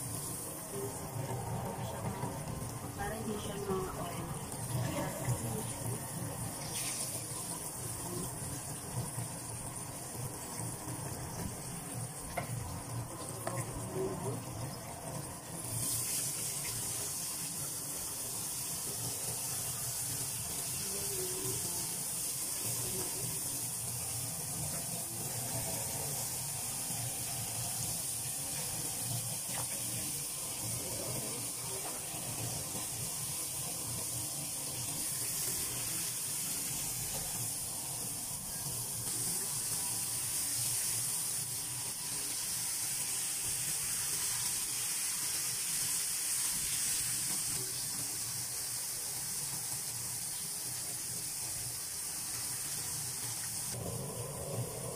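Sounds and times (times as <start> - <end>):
fish deep-frying in oil: 0.0 - 54.9.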